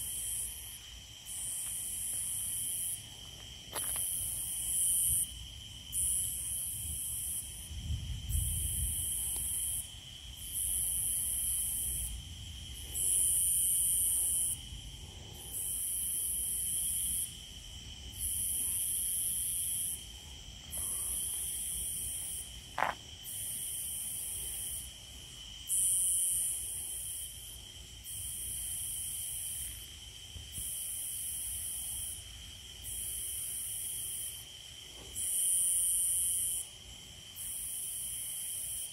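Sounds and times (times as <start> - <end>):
high-pitched insect trill: 0.0 - 38.9
insect rasping buzz pulses: 0.0 - 38.9.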